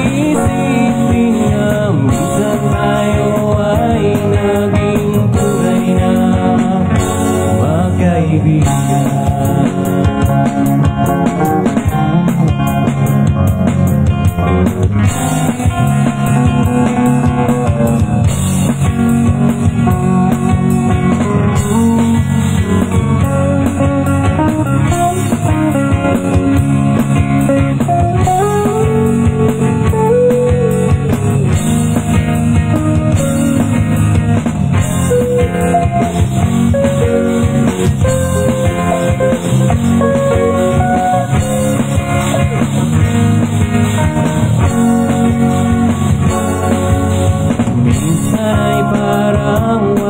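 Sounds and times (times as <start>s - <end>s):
bending melody line: 0.0s - 49.8s
live band playing slow song: 0.0s - 50.0s.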